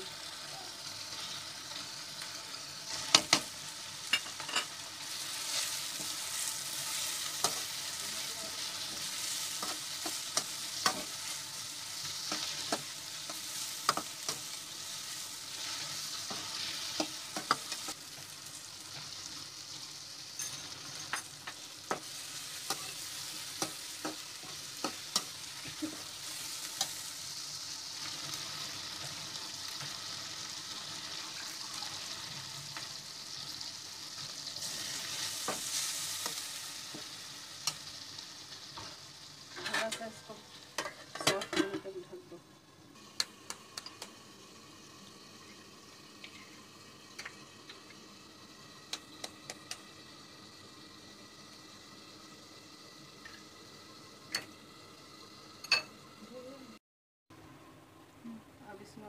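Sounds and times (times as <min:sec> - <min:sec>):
masala sizzling in oil: 0:00.0 - 0:59.0.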